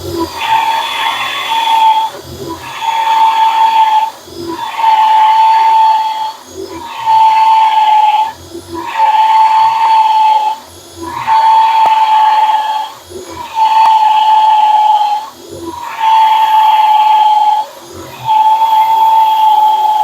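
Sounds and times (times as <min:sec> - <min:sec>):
drill drilling into wood: 0:00.0 - 0:20.0.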